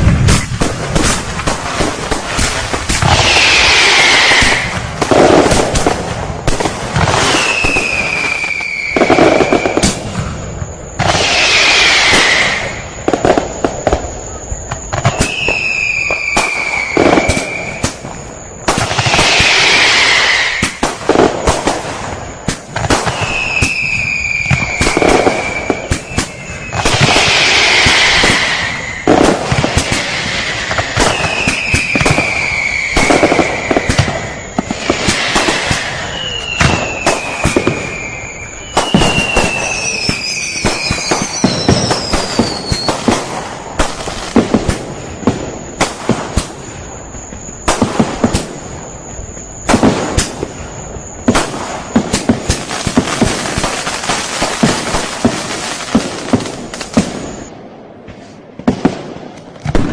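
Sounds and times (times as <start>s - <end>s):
firework hissing bursts: 0.0s - 57.5s
firework whistles: 0.0s - 57.6s
firework bangs and crackles: 0.0s - 59.9s.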